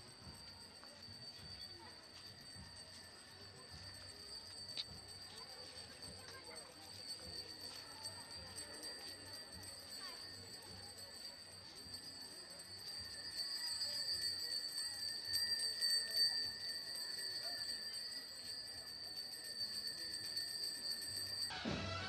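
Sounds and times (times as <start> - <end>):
small bell ringing: 0.0 - 21.6.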